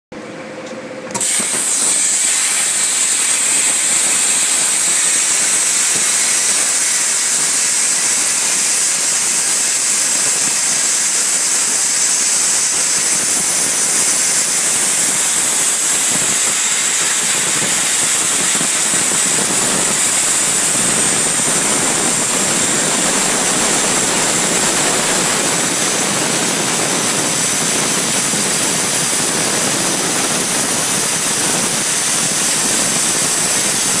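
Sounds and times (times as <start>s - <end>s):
plasma torch hissing: 1.1s - 34.0s.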